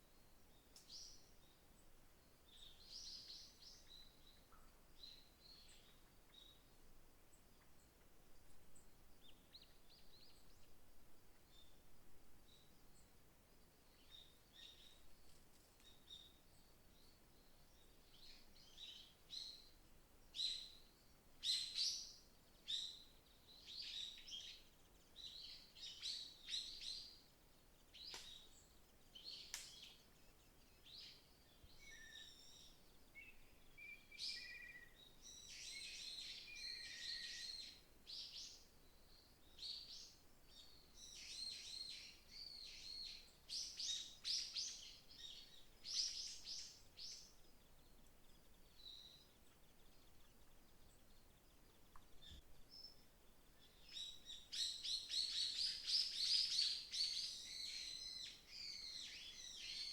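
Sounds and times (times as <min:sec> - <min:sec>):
small birds chirping and singing: 0:00.2 - 0:08.0, 0:08.7 - 0:11.8, 0:12.4 - 0:59.9.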